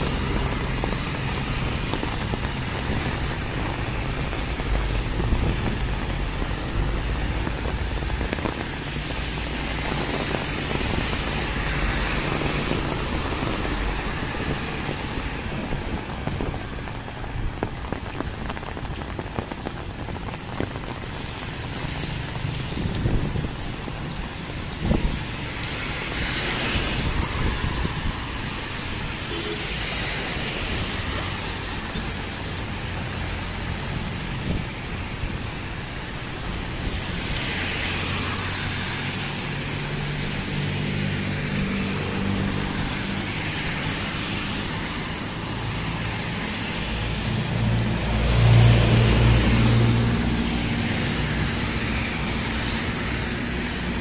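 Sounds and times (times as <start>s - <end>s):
heavy rain pattering: 0.0s - 54.0s
vehicles passing on wet road: 0.0s - 54.0s.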